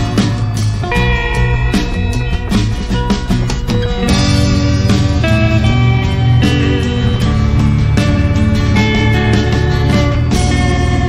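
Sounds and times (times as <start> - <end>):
background guitar music: 0.0 - 11.0.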